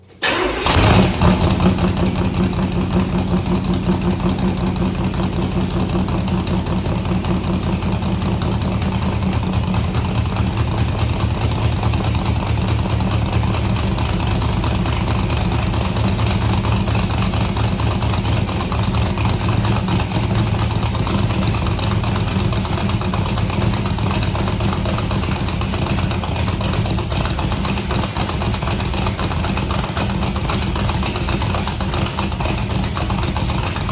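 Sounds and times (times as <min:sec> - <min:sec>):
car engine cold start and idle: 0:00.0 - 0:33.9.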